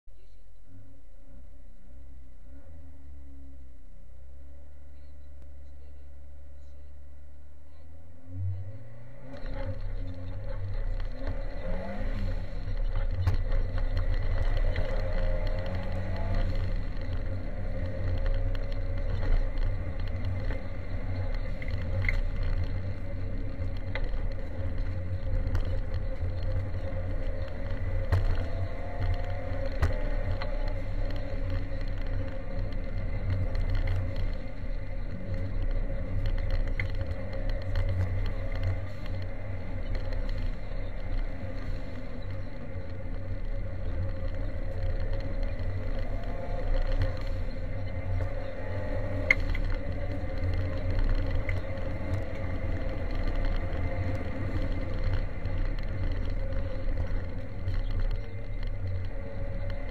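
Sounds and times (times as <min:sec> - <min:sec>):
car engine revving: 0:08.0 - 0:59.9
gravel striking car underside: 0:09.2 - 0:59.9.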